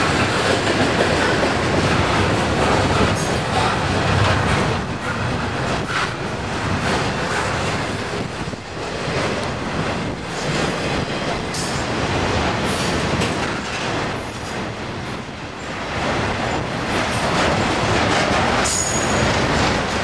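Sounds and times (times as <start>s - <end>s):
train wheels rumbling on rails: 0.0s - 20.0s
wheels clicking over rail joints: 0.0s - 20.0s.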